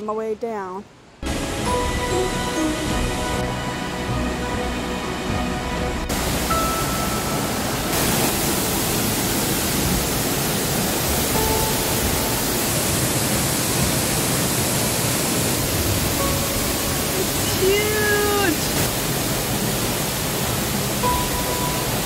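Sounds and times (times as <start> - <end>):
waterfall rushing: 1.0 - 22.0.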